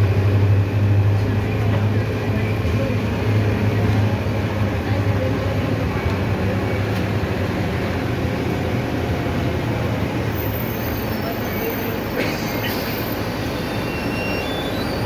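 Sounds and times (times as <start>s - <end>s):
bus engine drone: 0.0s - 15.0s
road and body noise: 0.0s - 15.0s.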